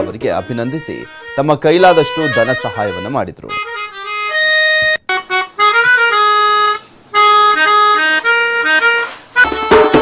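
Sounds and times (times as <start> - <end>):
melodica folk melody: 0.0 - 10.0.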